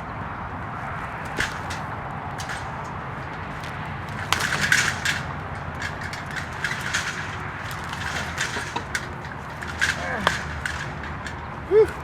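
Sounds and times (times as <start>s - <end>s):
wood crunching and knocking: 1.2s - 12.0s.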